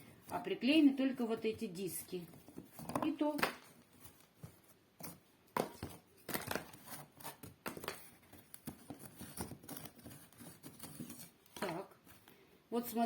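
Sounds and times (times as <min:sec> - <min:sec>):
cardboard rustling and scraping: 0:01.6 - 0:12.2.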